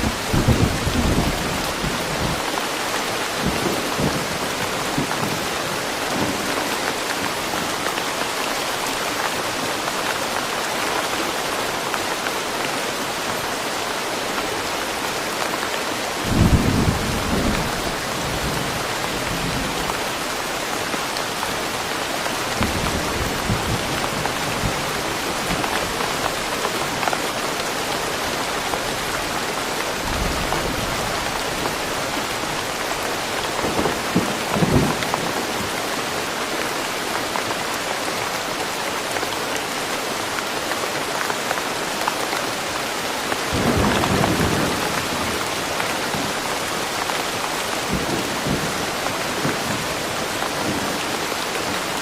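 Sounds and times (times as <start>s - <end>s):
steady rain in woodland: 0.0s - 52.0s.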